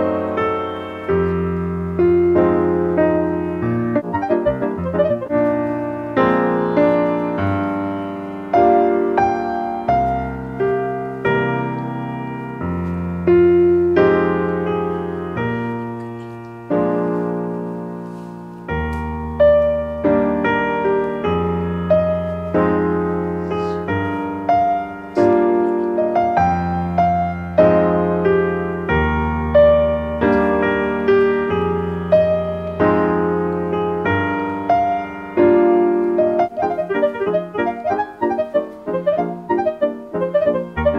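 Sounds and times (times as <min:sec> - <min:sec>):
solo piano music: 0:00.0 - 0:40.9.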